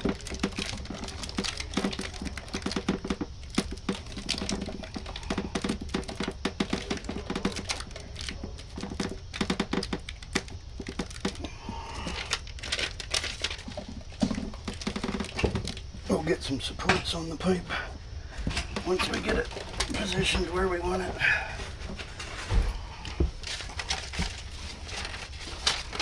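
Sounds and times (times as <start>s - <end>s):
insulation rustling and crinkling: 0.0s - 26.0s.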